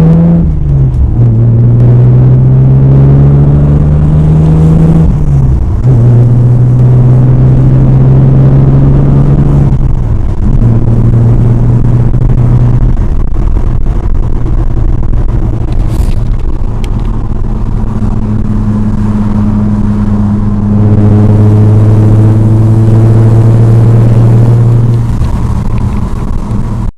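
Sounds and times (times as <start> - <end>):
car engine and exhaust droning: 0.0 - 26.9.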